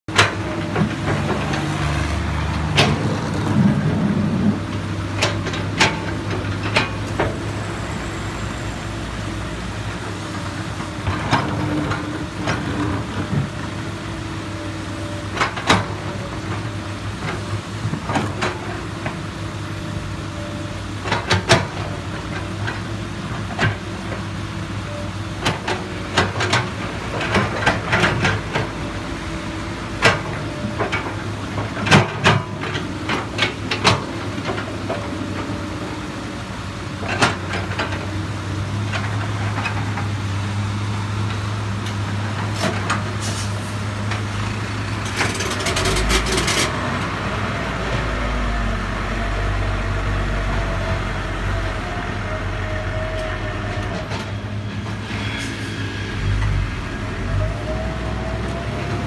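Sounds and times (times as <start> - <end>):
excavator diesel engine running: 0.1 - 59.0.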